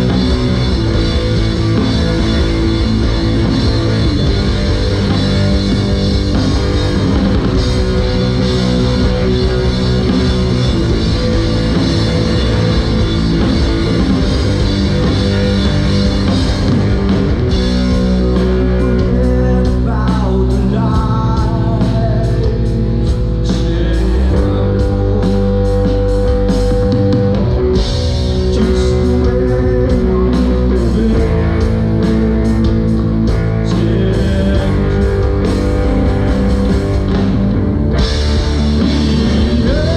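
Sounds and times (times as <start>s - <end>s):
bending guitar melody: 0.0s - 39.9s
drum kit: 0.0s - 39.9s
electric guitar: 0.0s - 39.9s
live rock band playing: 0.0s - 39.9s.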